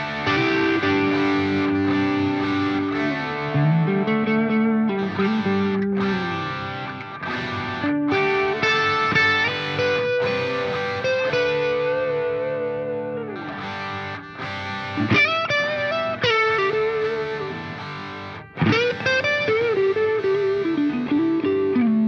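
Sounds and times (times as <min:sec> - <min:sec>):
distorted electric guitar: 0:00.0 - 0:22.0.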